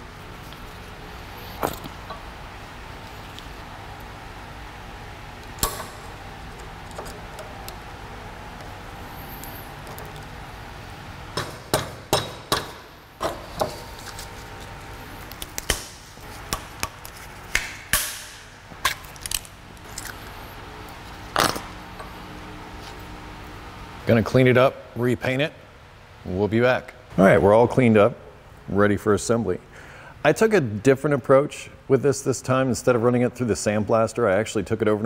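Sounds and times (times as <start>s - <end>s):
steady shop hum: 0.0s - 35.0s.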